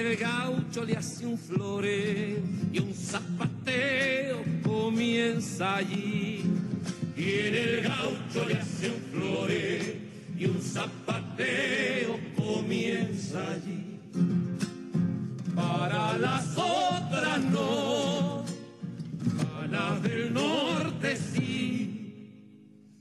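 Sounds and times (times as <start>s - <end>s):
voices singing together: 0.0s - 14.4s, 15.5s - 22.4s.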